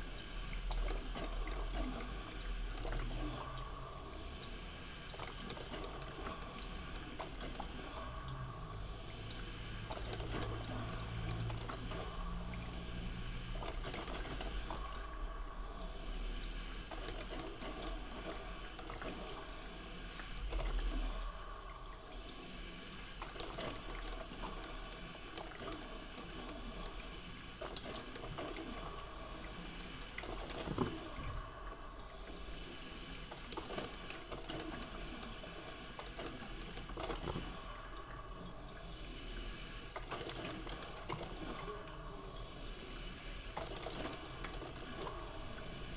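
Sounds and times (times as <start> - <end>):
coffee maker brewing: 0.0 - 45.9.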